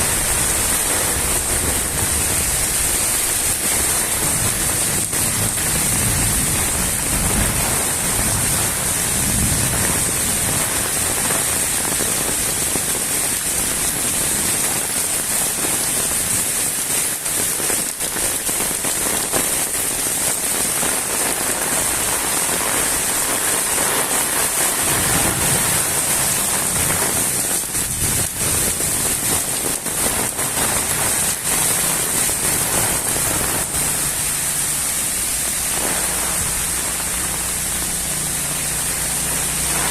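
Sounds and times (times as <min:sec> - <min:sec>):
rain falling on ground: 0:00.0 - 0:39.9.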